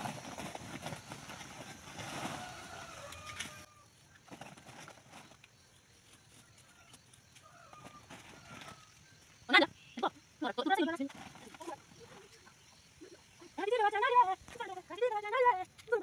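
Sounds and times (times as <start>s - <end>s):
background noise: 0.0s - 16.0s.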